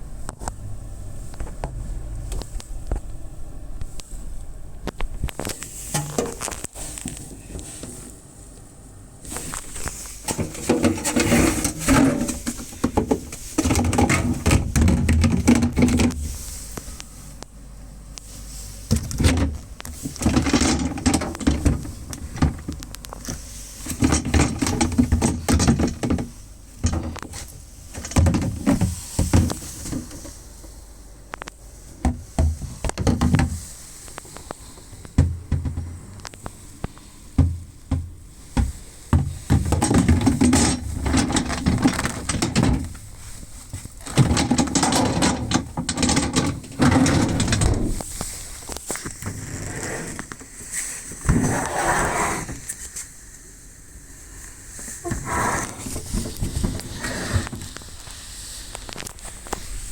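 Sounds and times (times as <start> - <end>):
rustling and clattering: 3.8 - 8.6, 9.2 - 53.2, 54.4 - 59.9.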